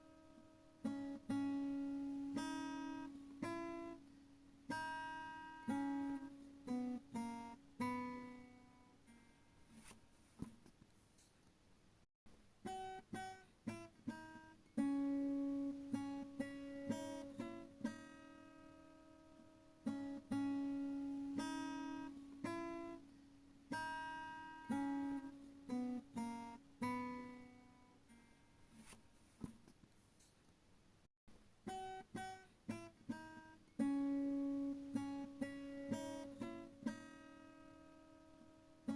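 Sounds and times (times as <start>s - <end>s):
acoustic guitar picked and strummed: 0.0s - 10.8s, 12.4s - 29.8s, 31.3s - 38.9s.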